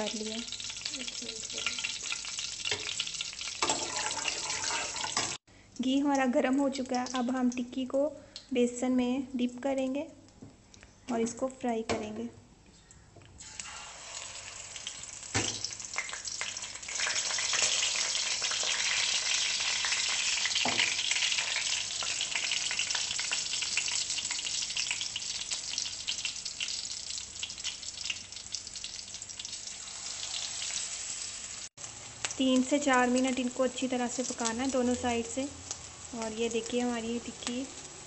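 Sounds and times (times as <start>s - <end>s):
patties sizzling in hot fat: 0.0s - 7.9s, 13.4s - 38.0s.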